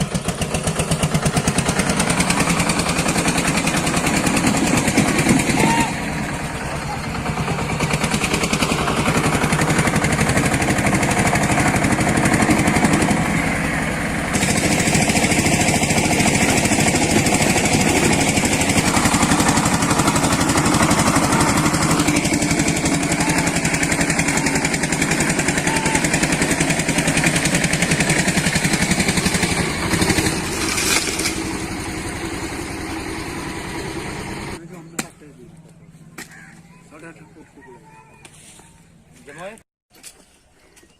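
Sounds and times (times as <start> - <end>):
tractor diesel engine running: 0.0 - 37.6.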